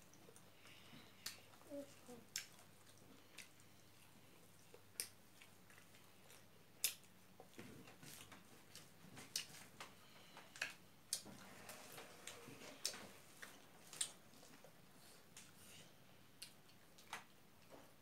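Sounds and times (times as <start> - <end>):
people chewing food: 0.0 - 18.0.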